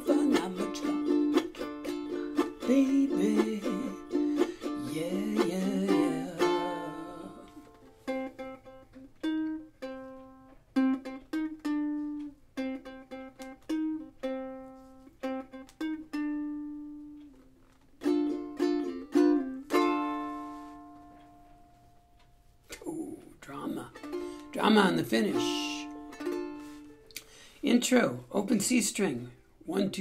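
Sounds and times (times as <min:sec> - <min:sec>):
ukulele picked riff: 0:00.0 - 0:27.4
ukulele strummed chords: 0:00.0 - 0:27.4.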